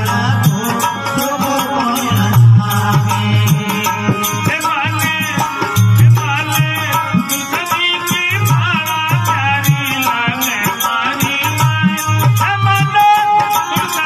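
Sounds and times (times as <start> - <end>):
hand drum steady beat: 0.0 - 14.0.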